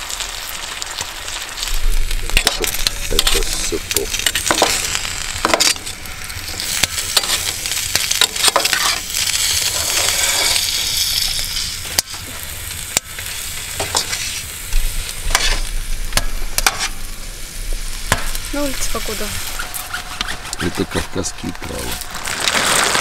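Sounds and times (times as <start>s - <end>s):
food sizzling in frying pan: 0.0s - 23.0s.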